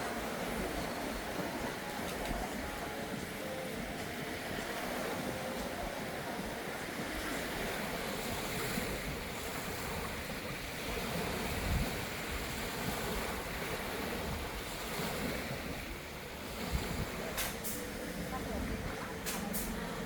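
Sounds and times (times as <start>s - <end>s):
surf hissing on a beach: 0.0s - 20.0s
wind buffeting microphone: 0.0s - 20.0s.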